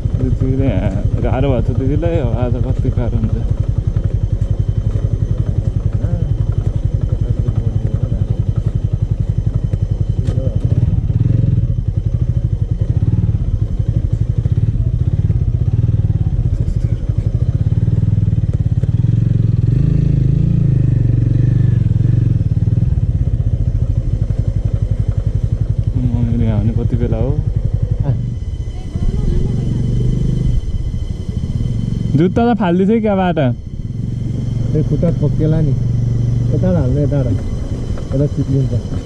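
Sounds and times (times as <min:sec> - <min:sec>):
motorcycle engine chugging: 0:00.0 - 0:39.0.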